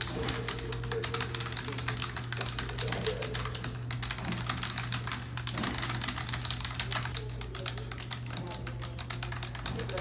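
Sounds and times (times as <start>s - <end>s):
keyboard typing: 0.0s - 10.0s.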